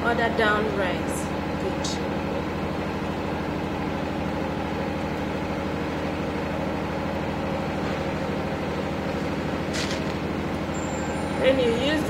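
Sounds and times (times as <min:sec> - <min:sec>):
engine droning hum: 0:00.0 - 0:12.0.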